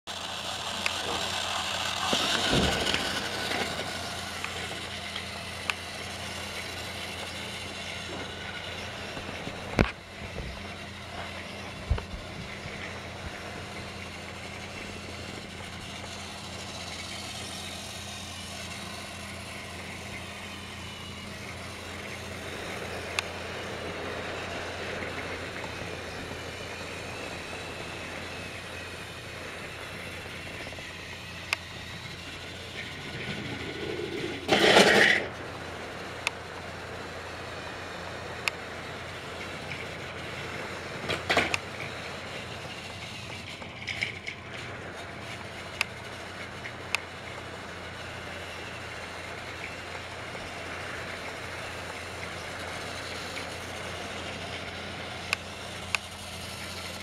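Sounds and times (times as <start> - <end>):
toy train whirring: 0.0 - 57.0.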